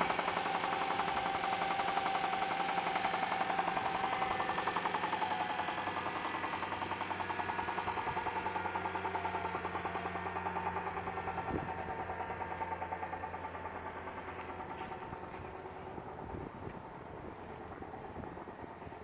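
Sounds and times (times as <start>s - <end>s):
engine running with knock: 0.0s - 19.0s.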